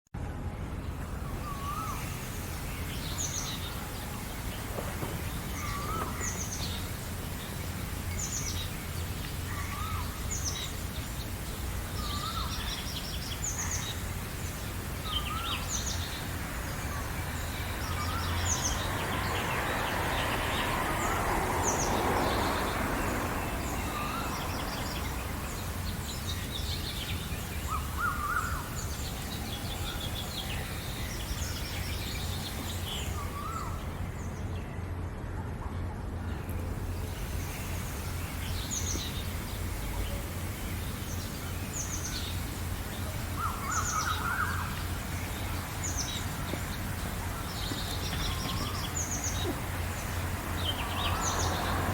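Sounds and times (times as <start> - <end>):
broad rushing noise: 0.2 - 51.9
lower whistled bird call: 1.1 - 11.2, 11.9 - 34.5, 37.0 - 51.8.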